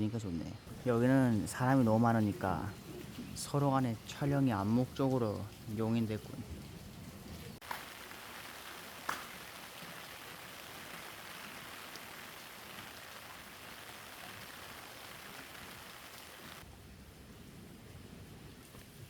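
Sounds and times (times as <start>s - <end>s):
steady rain falling: 0.7s - 19.0s.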